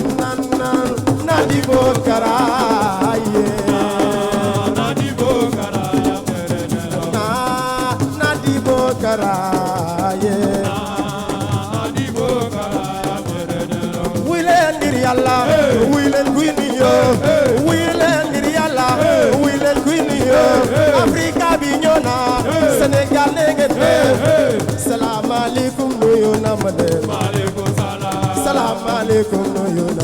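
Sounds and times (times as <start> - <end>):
fast drumming with rattles: 0.0 - 30.0.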